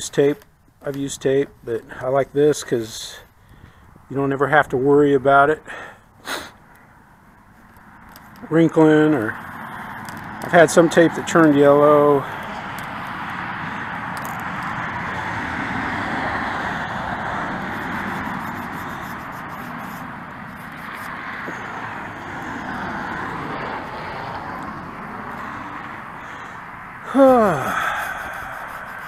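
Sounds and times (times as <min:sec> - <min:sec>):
rushing outdoor background noise: 0:00.0 - 0:29.0.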